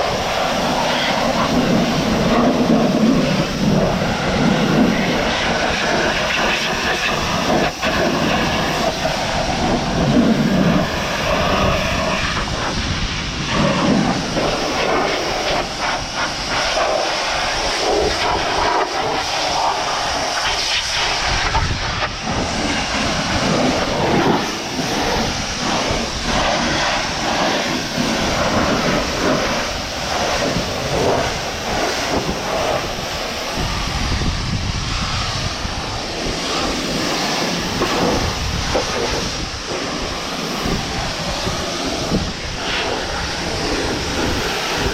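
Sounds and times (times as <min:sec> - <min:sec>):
pressure washer spraying water: 0:00.0 - 0:44.9.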